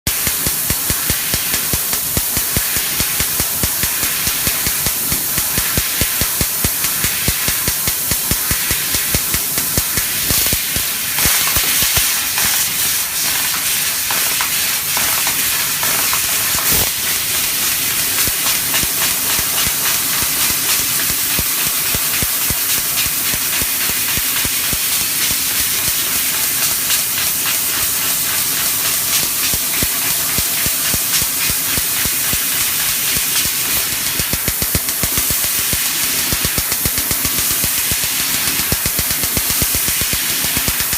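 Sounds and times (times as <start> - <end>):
laser cutter gas hissing: 0.1 - 40.9.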